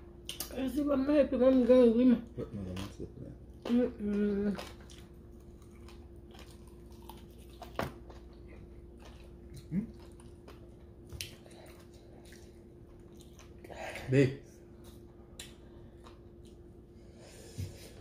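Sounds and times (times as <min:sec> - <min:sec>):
faint steady hum: 0:00.0 - 0:18.0
people chewing chicken wings: 0:01.4 - 0:14.2, 0:14.8 - 0:18.0.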